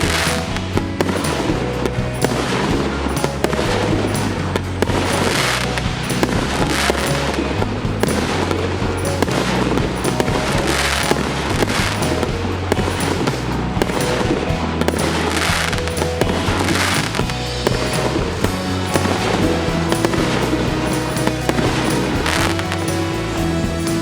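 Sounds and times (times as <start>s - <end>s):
music with steady bass line: 0.0s - 24.0s.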